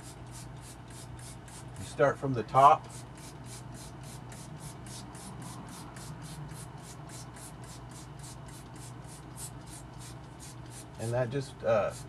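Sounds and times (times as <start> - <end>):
spray bottle squirting water: 0.0 - 1.9, 2.8 - 11.0
steady low hum: 0.0 - 12.0.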